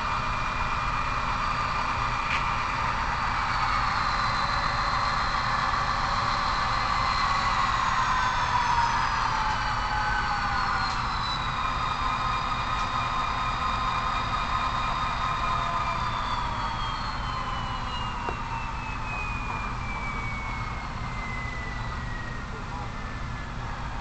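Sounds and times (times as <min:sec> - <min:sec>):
model locomotive motor whine: 0:00.0 - 0:24.0.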